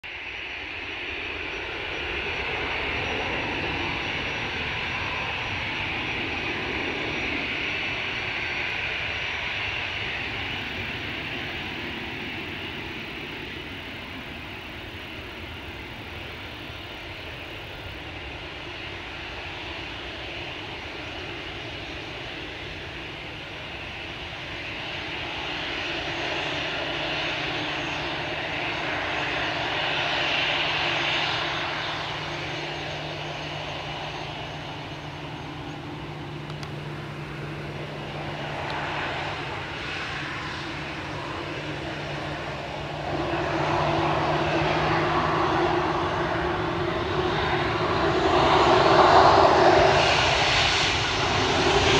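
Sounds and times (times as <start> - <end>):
jet engine roar: 0.0 - 51.9.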